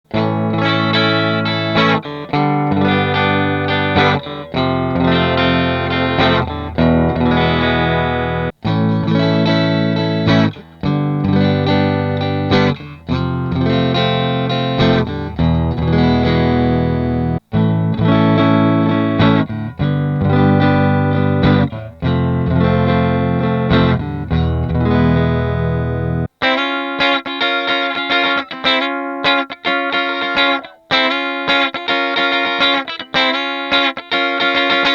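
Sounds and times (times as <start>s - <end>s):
distorted electric guitar strumming: 0.1s - 34.9s.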